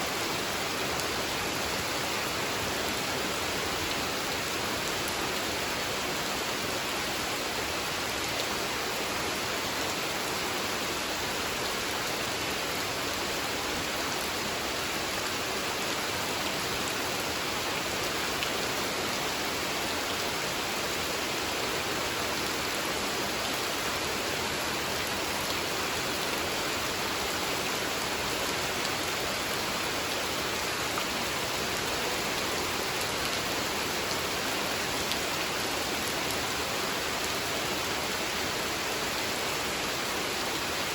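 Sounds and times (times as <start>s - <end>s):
rain falling on a pond: 0.0s - 40.9s.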